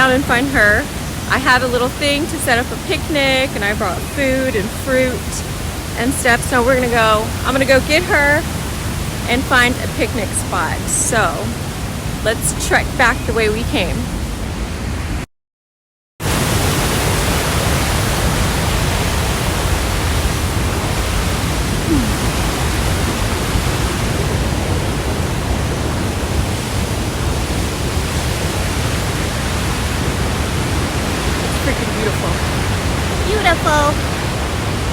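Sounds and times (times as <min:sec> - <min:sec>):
waterfall rushing: 0:00.0 - 0:14.7, 0:16.2 - 0:34.9.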